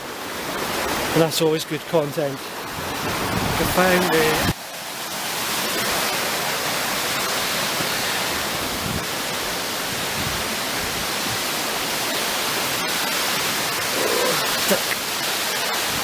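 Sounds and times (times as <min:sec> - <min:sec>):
fast-flowing water rushing: 0:00.0 - 0:16.0.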